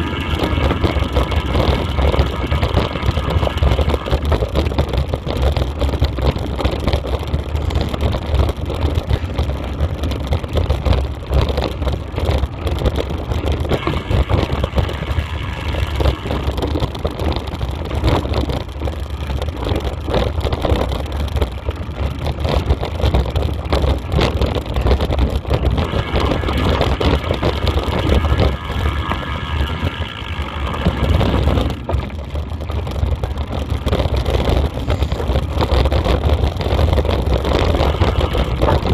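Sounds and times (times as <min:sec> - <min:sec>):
wind buffeting camera: 0:00.0 - 0:38.9.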